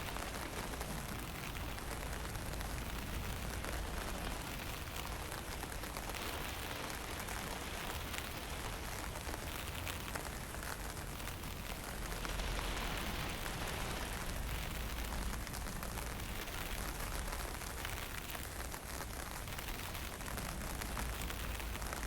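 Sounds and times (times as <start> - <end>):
light rain drizzle: 0.0 - 22.0
low rumble of wind: 0.0 - 22.0.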